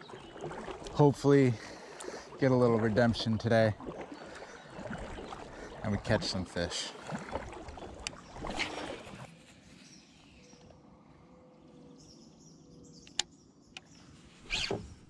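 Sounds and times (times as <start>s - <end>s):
kayak paddle stroking water: 0.0s - 11.9s, 13.1s - 15.0s.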